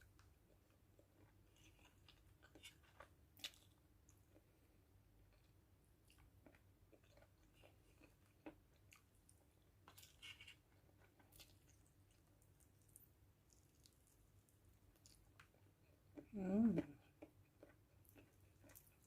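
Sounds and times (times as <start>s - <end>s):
chewing with soft crunches: 0.0s - 19.0s.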